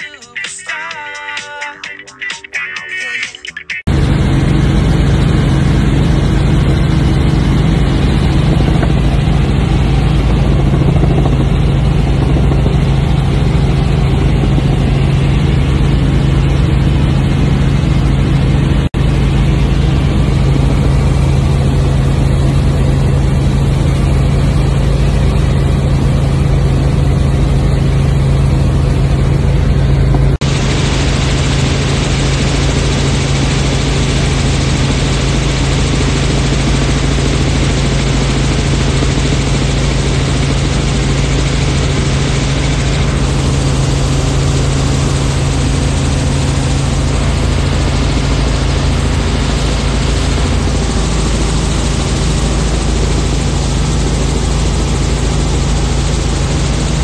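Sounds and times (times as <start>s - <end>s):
helicopter engine and rotor drone: 3.8s - 57.0s.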